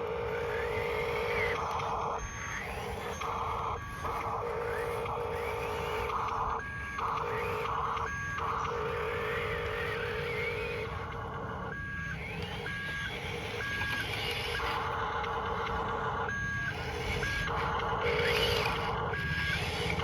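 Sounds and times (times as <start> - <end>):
toy vehicle reversing beeper: 0.0 - 20.0
whir of motors and gears: 0.0 - 20.0.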